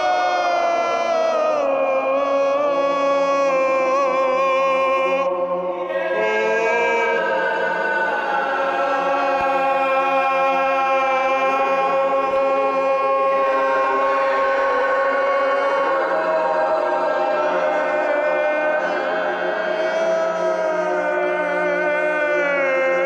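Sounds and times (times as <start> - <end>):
voices singing held chant notes: 0.0 - 23.0.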